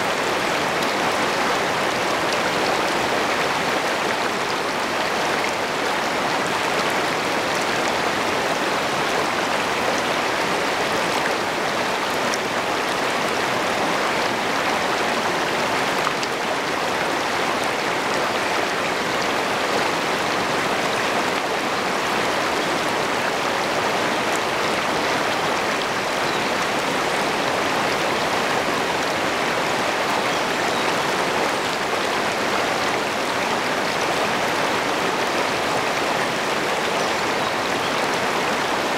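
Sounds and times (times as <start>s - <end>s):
river rapids rushing over rocks: 0.0s - 38.9s.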